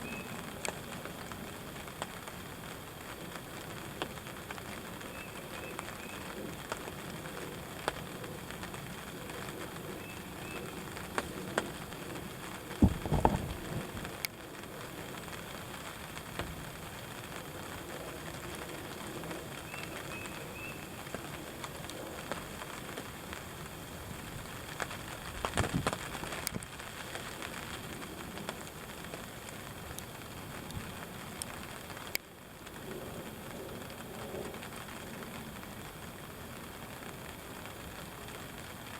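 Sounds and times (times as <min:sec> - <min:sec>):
rain pattering on fabric: 0:00.0 - 0:38.9.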